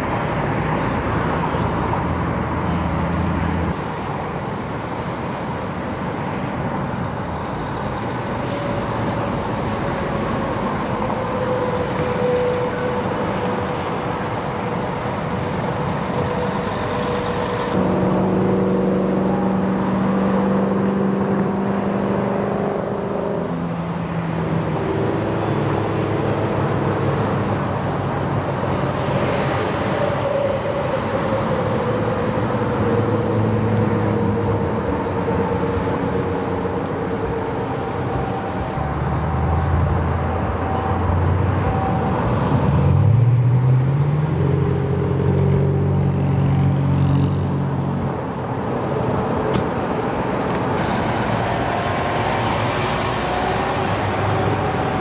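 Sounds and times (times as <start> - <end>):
freeway traffic passing: 0.0 - 55.0.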